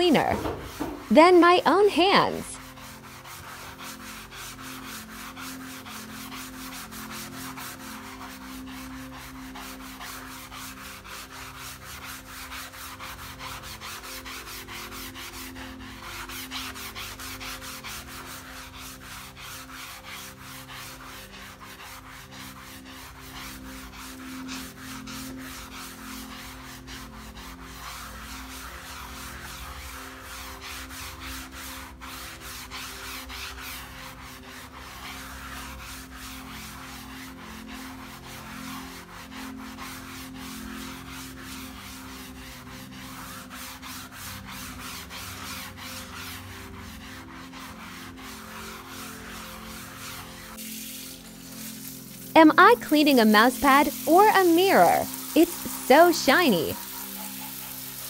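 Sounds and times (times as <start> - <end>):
quiet music of held notes: 0.0 - 58.0
sponge scrubbing: 0.0 - 58.0.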